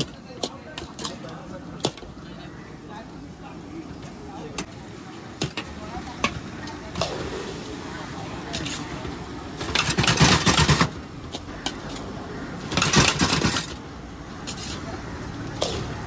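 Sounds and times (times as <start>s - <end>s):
distant voices: 0.0s - 16.0s
traffic: 0.0s - 16.0s.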